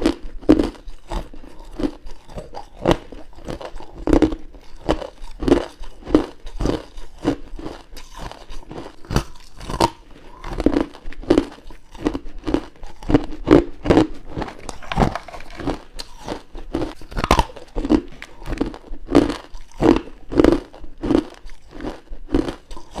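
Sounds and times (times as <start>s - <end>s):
crisp ice crunching bites: 0.0s - 23.0s.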